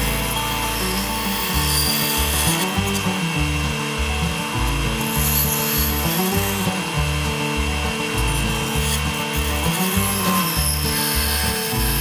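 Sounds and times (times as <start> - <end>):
background music with bass line: 0.0 - 12.0
bandsaw cutting wood: 0.0 - 12.0.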